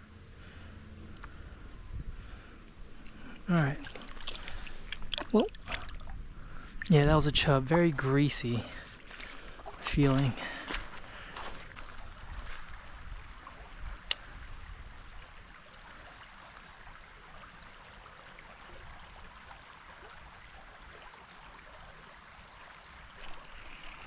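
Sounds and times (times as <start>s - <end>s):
creek water running: 2.2s - 24.0s.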